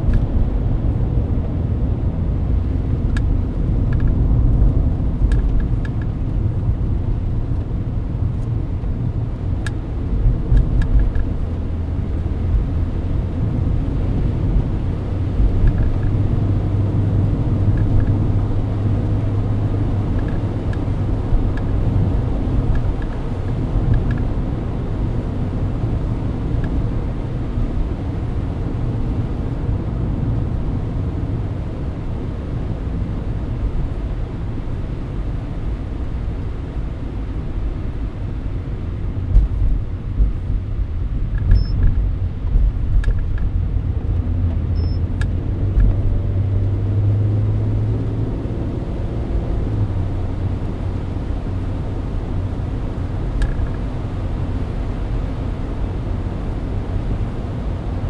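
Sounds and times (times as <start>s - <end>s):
car engine cruising: 0.0s - 58.0s.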